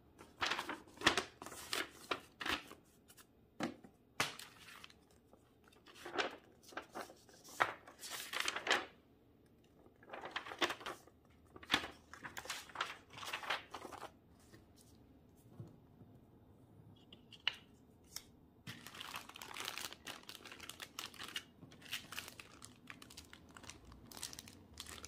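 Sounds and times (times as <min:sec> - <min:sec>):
paper rustling and crinkling: 0:00.2 - 0:03.3, 0:04.2 - 0:09.0, 0:09.8 - 0:15.0, 0:17.5 - 0:25.0.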